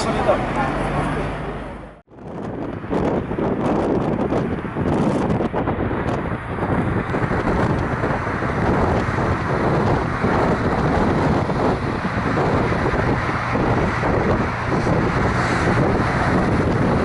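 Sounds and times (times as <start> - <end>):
heavy road traffic rumble: 0.0 - 17.0
wind buffeting microphone: 0.0 - 17.0.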